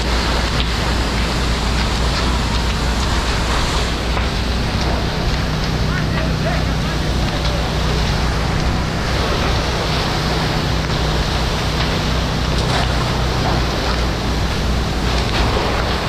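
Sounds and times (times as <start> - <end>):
fire hose spraying water: 0.0 - 16.0
low engine hum: 0.0 - 16.0.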